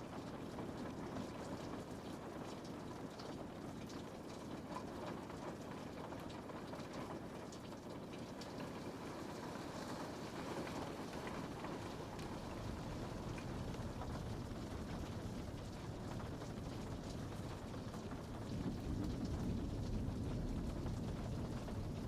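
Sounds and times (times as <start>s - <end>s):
rain on a window pane: 0.0s - 22.0s.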